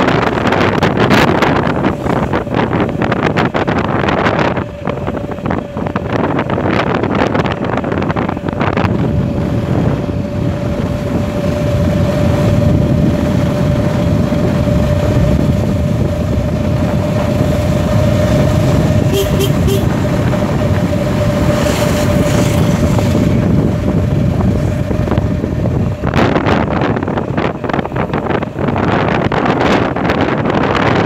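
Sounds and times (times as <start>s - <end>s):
motorbike engine: 0.0s - 30.1s
road noise: 0.0s - 31.0s
wind buffeting microphone: 0.0s - 31.0s.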